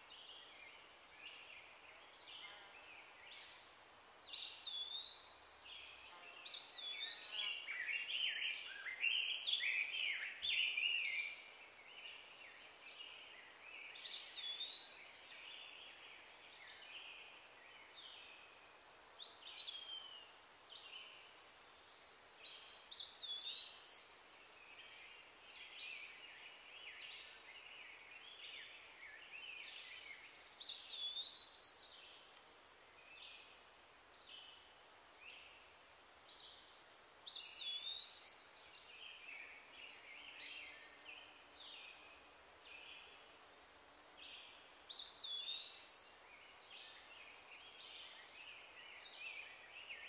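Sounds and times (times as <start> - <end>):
faint outdoor hiss: 0.0 - 50.0.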